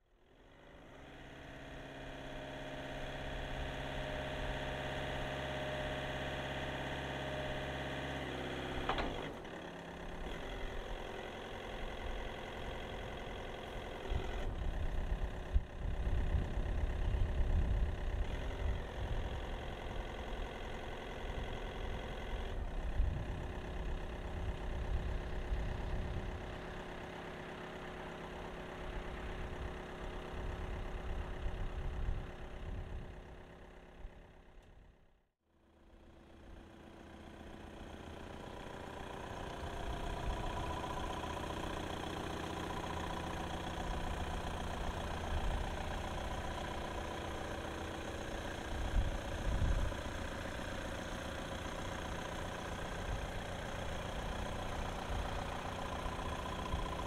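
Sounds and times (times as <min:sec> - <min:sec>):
forklift engine running: 0:00.3 - 0:34.9, 0:35.6 - 0:57.0.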